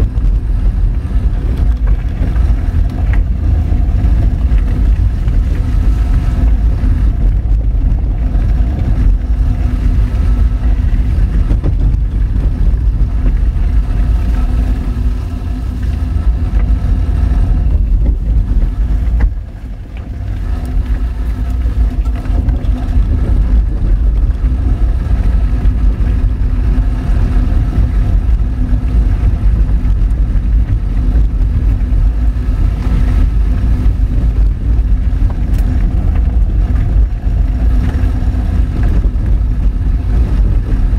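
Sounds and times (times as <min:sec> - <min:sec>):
car engine running: 0:00.0 - 0:40.9
car rumbling on gravel: 0:00.0 - 0:40.9.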